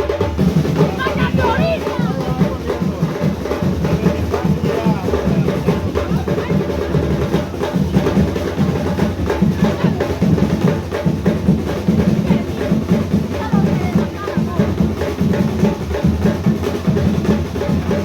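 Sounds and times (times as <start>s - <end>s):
bass drum beat: 0.0s - 18.0s.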